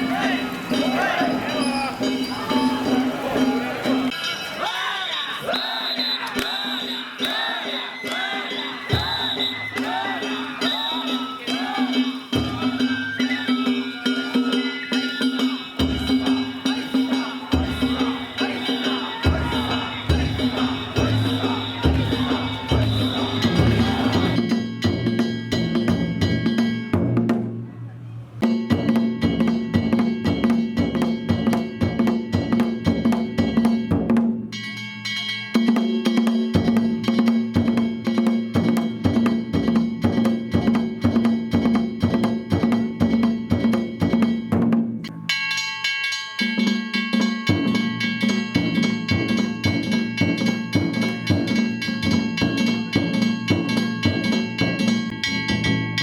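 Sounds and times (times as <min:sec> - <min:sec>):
clanging metal bells: 0:00.0 - 0:27.5, 0:28.4 - 0:56.0
taiko drums beating fast: 0:06.4 - 0:27.6, 0:28.4 - 0:56.0.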